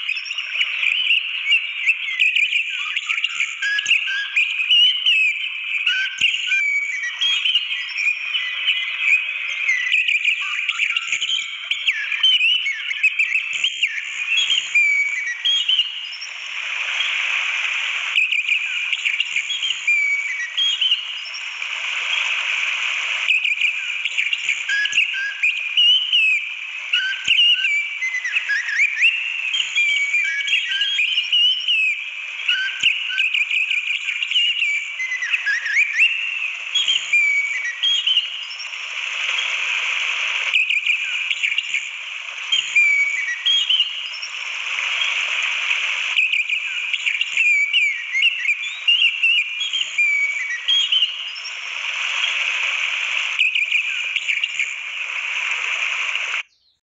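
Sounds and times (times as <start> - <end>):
thrush singing whistled phrases: 0.0 - 56.8.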